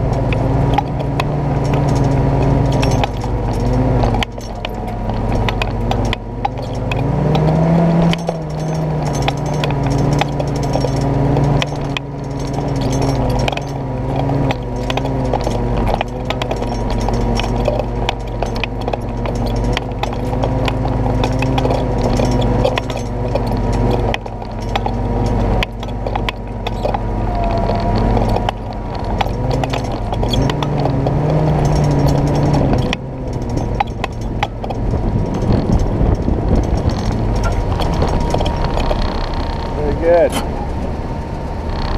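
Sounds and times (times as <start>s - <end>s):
engine pulling at low speed: 0.0s - 41.9s
vehicle body rattling and clunking: 0.0s - 41.9s.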